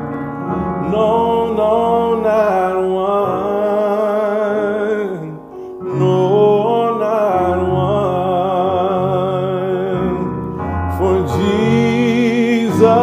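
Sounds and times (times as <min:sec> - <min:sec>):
sustained keyboard chords: 0:00.0 - 0:13.0
man singing a hymn: 0:00.6 - 0:13.0.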